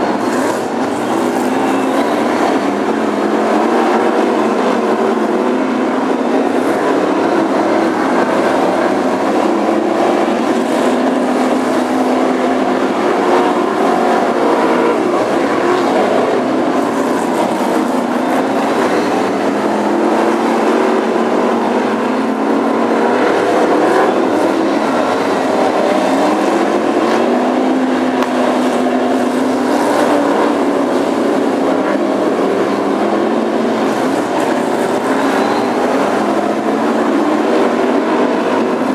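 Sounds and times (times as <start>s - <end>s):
racing car engines: 0.0s - 38.9s.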